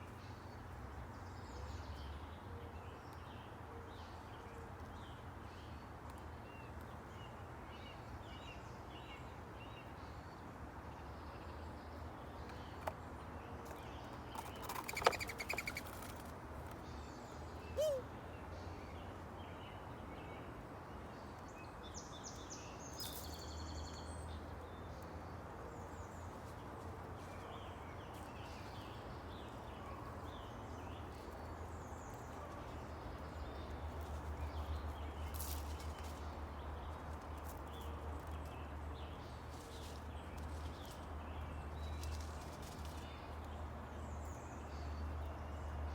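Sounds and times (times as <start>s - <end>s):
small songbirds chirping: 0.0s - 45.9s.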